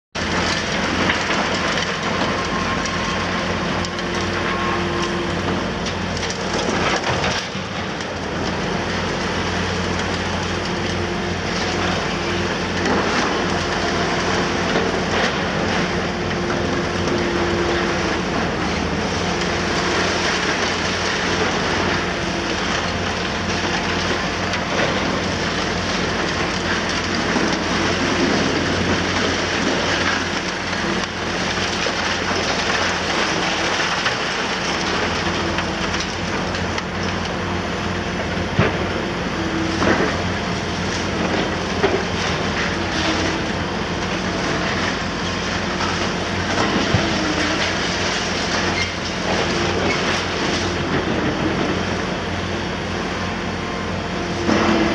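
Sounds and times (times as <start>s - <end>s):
diesel engine running: 0.1s - 54.9s
concrete crackling and rubble falling: 0.2s - 52.4s.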